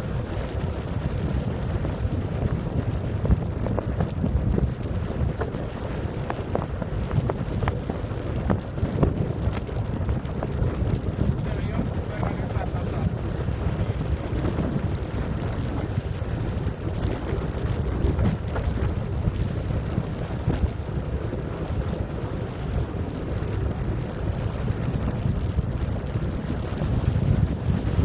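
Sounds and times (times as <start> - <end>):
bicycle road rumble: 0.0 - 28.0
wind buffeting microphone: 0.0 - 28.0.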